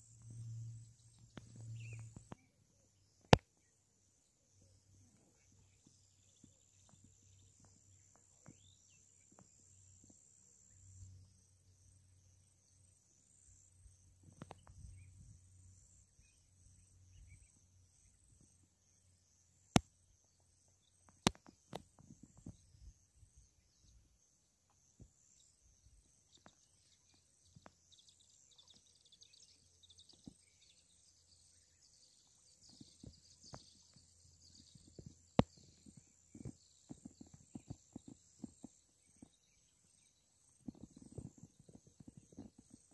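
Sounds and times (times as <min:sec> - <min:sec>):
insects chirring: 0:04.5 - 0:42.9.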